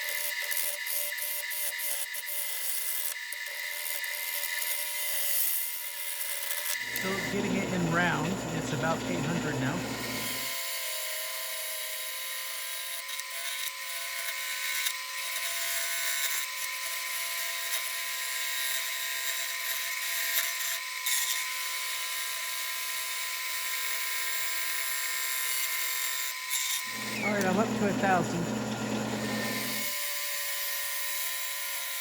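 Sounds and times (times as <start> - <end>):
wood lathe motor whine: 0.0 - 32.0.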